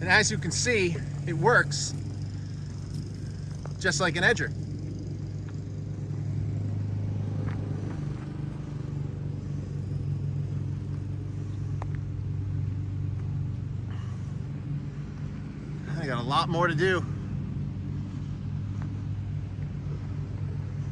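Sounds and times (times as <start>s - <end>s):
lawn mower humming: 0.0s - 20.9s.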